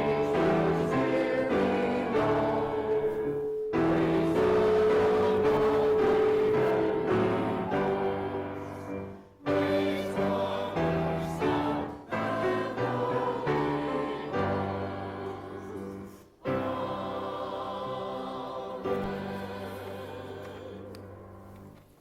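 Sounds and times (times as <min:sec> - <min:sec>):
instrumental accompaniment: 0:00.0 - 0:17.8
choir singing: 0:00.0 - 0:21.8.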